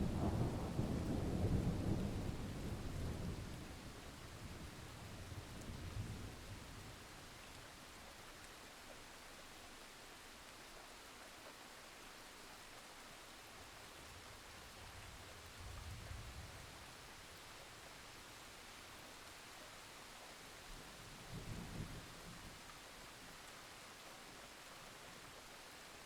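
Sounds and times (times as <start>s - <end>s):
faint rain hiss: 0.0s - 26.0s.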